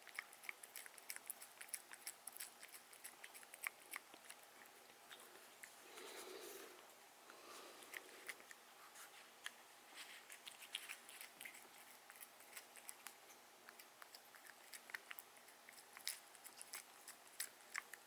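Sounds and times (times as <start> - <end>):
cat chewing crunches: 0.0 - 18.0.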